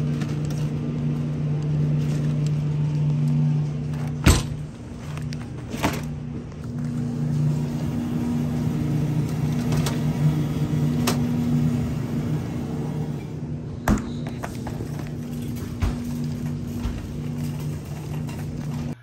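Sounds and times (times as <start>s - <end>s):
shopping cart rolling: 0.0s - 19.0s.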